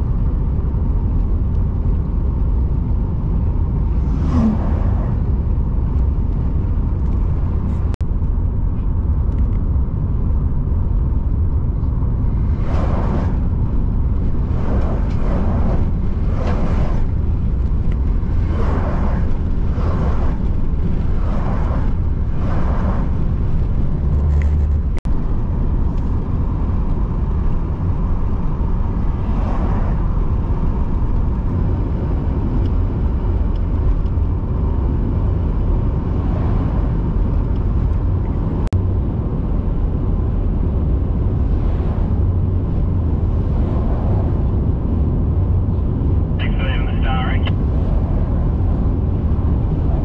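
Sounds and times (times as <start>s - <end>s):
car cabin road and engine noise: 0.0s - 50.0s
trucks passing: 2.6s - 8.0s, 10.7s - 50.0s.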